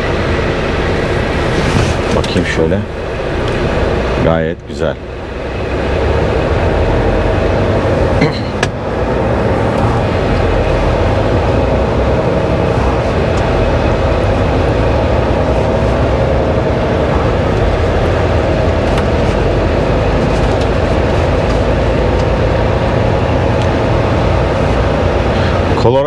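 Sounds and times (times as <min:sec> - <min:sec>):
truck engine and road noise: 0:00.0 - 0:26.0.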